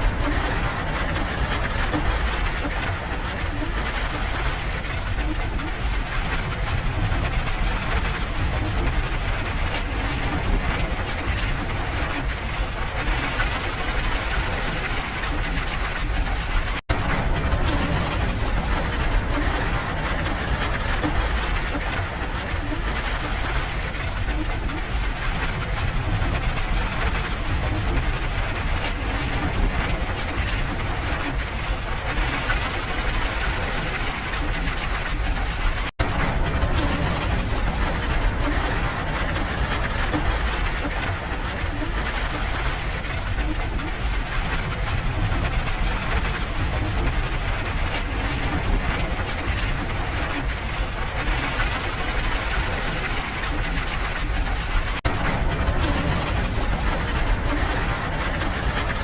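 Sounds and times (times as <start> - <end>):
low rumble: 0.0 - 59.0
steady rain: 0.0 - 59.0.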